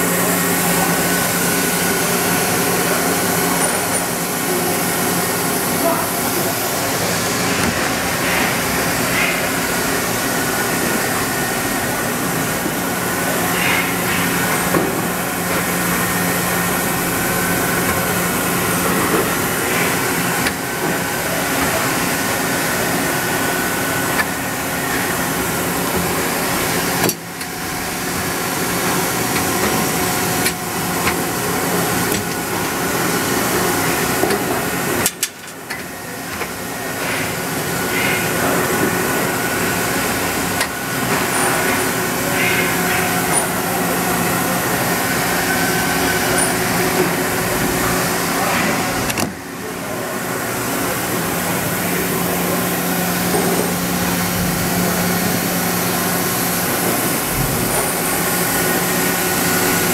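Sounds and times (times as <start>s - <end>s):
machine hum with steady tones: 0.0s - 59.9s.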